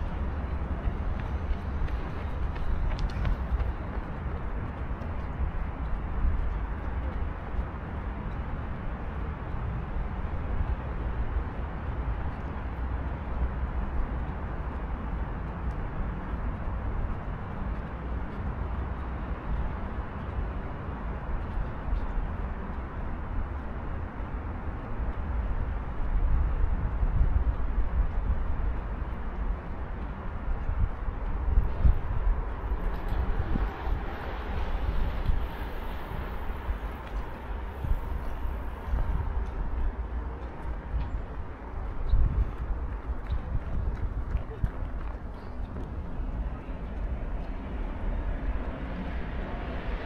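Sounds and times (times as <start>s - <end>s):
distant traffic hum: 0.0s - 50.0s.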